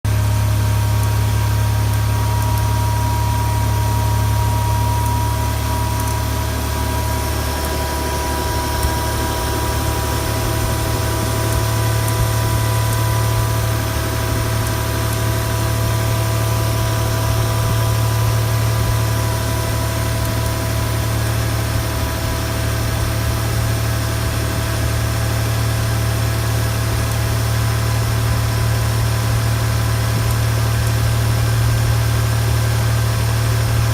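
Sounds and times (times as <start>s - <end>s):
car engine idling: 0.1s - 33.9s
thin steady whine: 0.1s - 33.9s.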